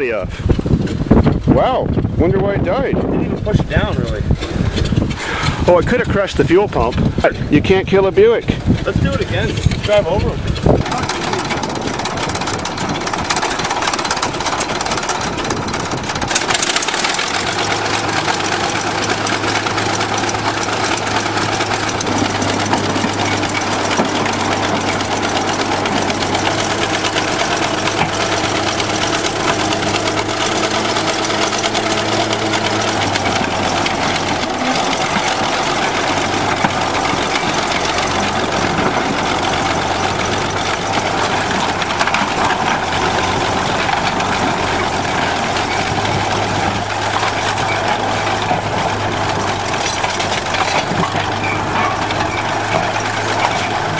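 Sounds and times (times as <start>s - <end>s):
bulldozer engine running: 0.0s - 53.9s.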